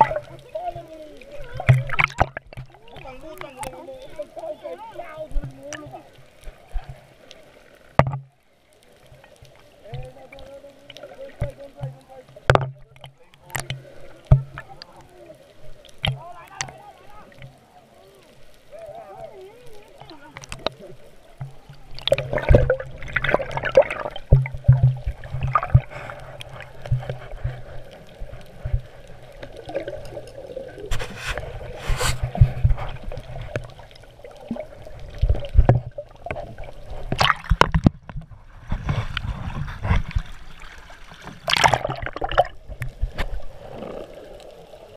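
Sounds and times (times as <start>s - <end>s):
underwater water sloshing: 0.0s - 44.9s.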